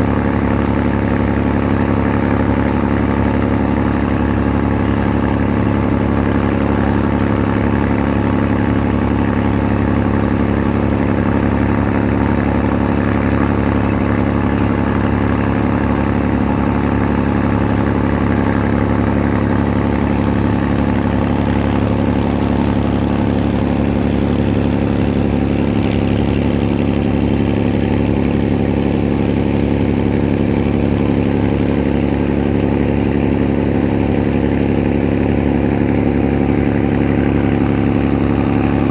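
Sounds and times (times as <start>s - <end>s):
ferry engine droning: 0.0s - 38.9s.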